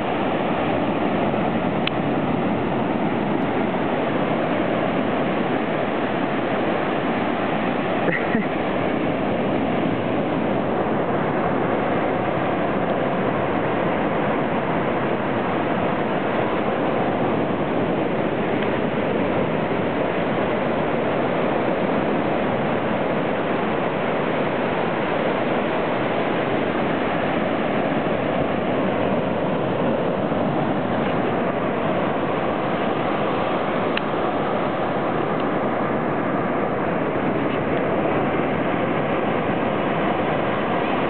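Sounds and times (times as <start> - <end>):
surf on a sandy beach: 0.0 - 41.0.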